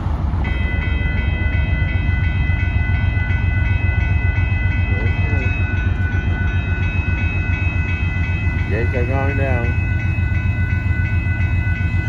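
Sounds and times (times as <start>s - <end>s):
railroad crossing bell ringing: 0.0s - 12.0s
steady low rumble: 0.0s - 12.0s.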